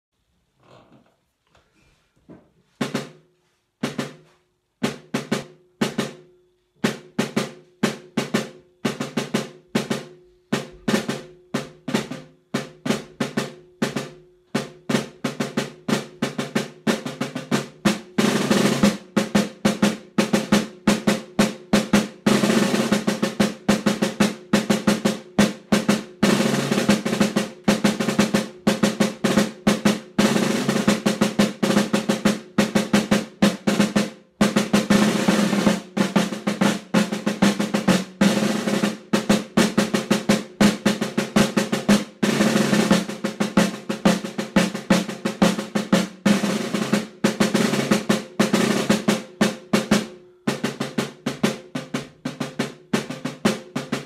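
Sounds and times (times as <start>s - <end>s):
snare drum played with sticks: 2.8s - 3.2s, 3.8s - 54.0s.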